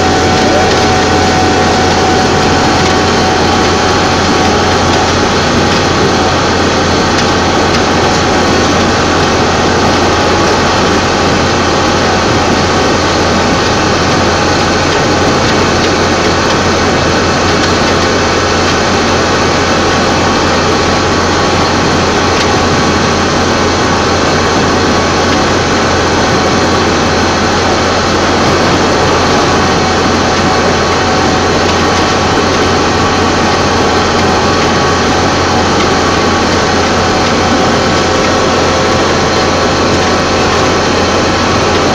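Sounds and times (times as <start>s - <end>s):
large engine running: 0.0s - 41.9s.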